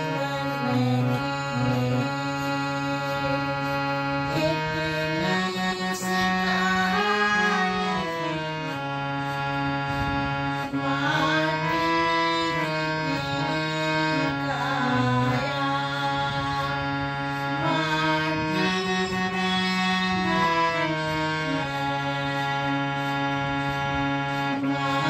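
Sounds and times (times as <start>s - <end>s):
woman singing: 0.0s - 8.9s, 10.6s - 22.7s, 24.5s - 25.0s
harmonium melody: 0.0s - 25.0s.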